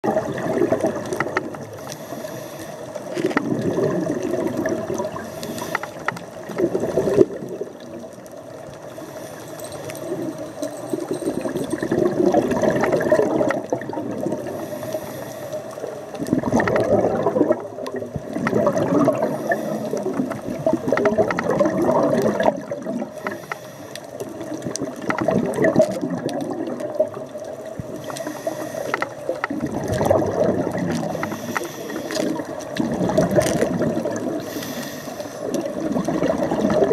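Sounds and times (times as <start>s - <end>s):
underwater bubbles gurgling: 0.0s - 36.9s.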